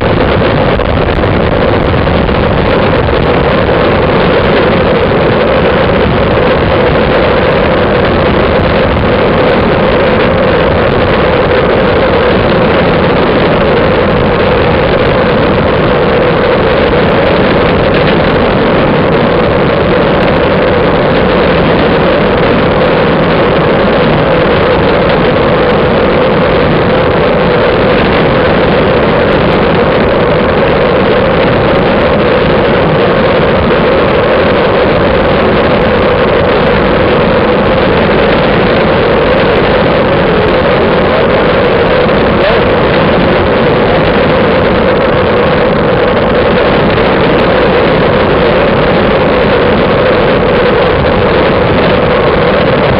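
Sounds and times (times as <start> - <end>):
bicycle tyre noise on asphalt: 0.0 - 52.9
wind rushing over microphone: 0.0 - 52.9.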